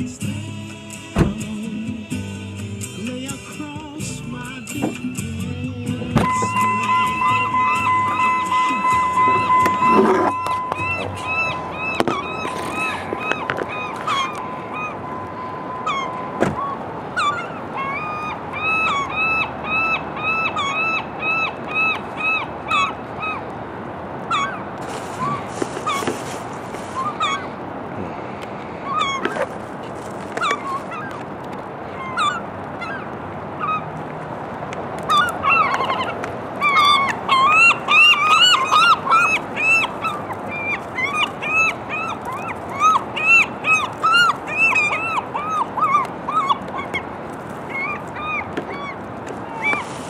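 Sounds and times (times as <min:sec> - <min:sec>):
gulls calling: 0:02.8 - 0:50.0.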